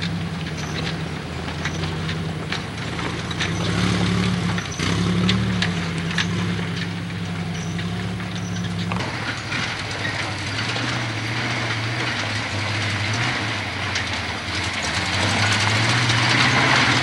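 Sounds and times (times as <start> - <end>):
jeep engine at low revs: 0.0 - 17.0
rocks crunching under tyres: 0.0 - 17.0.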